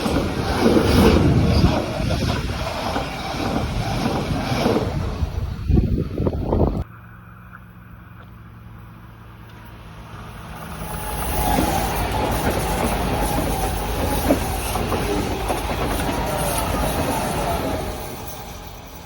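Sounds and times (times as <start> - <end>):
high rail squeal: 0.0 - 6.8, 9.3 - 19.0
train passing: 0.0 - 19.0.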